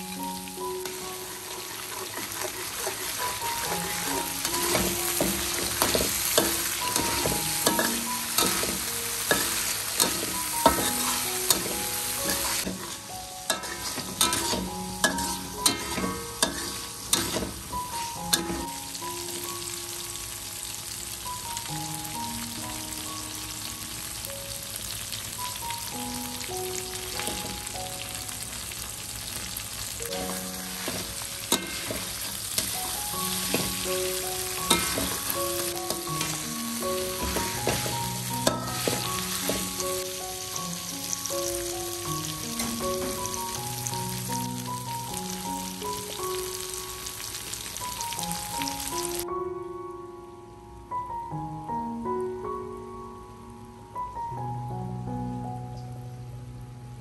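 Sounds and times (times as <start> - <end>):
chili paste sizzling in wok: 0.0 - 49.2
soft background music: 0.0 - 57.0.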